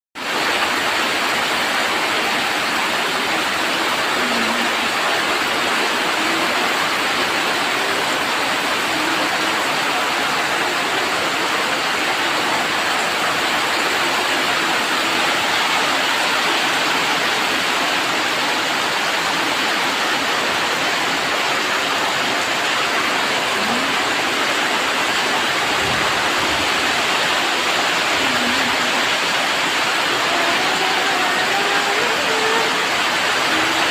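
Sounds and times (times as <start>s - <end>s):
heavy rain on a tin roof: 0.2s - 33.9s.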